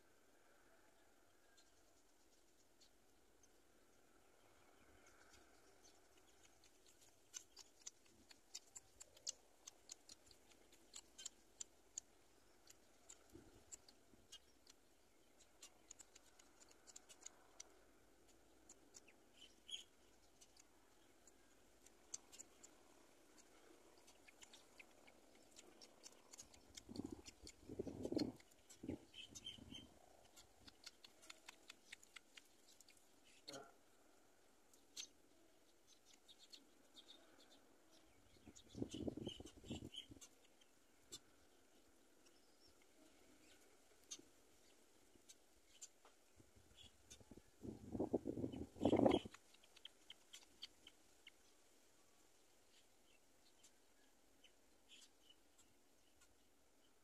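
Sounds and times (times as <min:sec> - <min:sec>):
faint bird chirps: 0:00.0 - 0:57.0
faint high-pitched ticks: 0:00.3 - 0:57.0.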